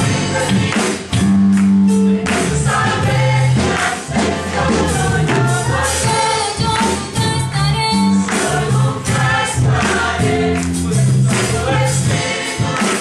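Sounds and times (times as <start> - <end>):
deep bass line: 0.0 - 12.2
choir singing gospel: 0.0 - 13.0.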